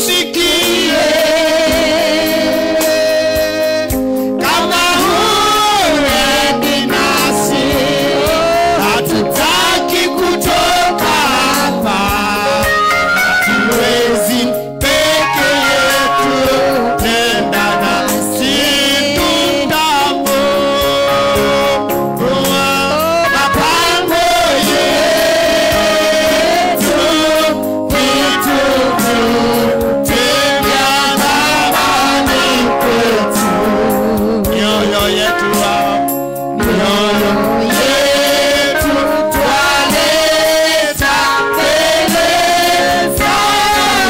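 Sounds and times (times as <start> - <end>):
amplified instrumental backing: 0.0 - 44.0
man singing into a microphone: 0.0 - 44.0.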